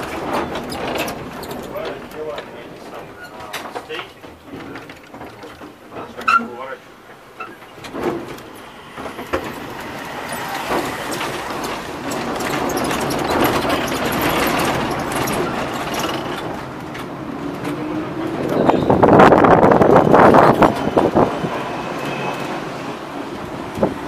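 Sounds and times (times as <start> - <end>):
tram passing alongside: 0.0 - 24.0
tram wheels and motors running: 0.0 - 24.0.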